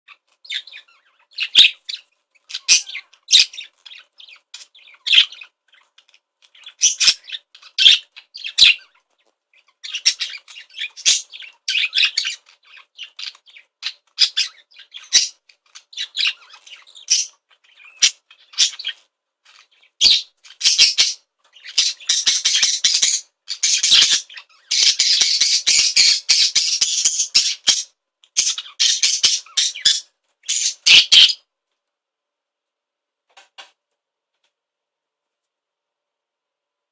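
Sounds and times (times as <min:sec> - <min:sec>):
budgerigar chirping and squawking: 0:00.1 - 0:31.5.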